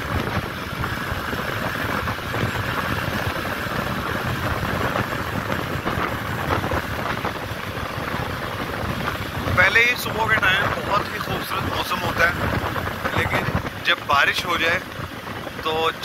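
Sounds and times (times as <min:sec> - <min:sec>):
motorbike engine running: 0:00.0 - 0:16.0
wind rushing over microphone: 0:00.0 - 0:16.0.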